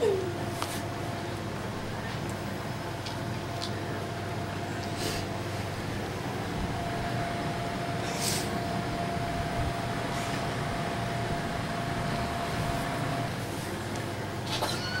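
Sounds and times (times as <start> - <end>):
air conditioner hum and hiss: 0.0 - 15.0
thin steady whine: 0.0 - 15.0.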